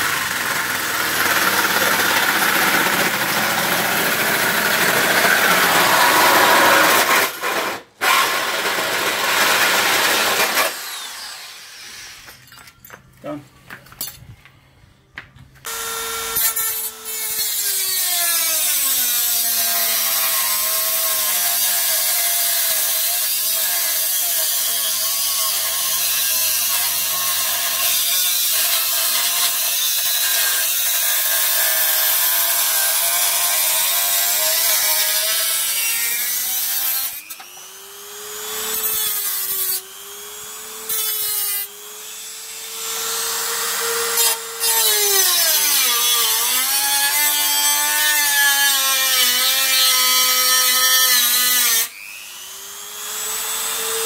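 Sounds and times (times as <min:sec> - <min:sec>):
rotary tool grinding metal: 0:00.0 - 0:12.6, 0:15.6 - 0:54.0.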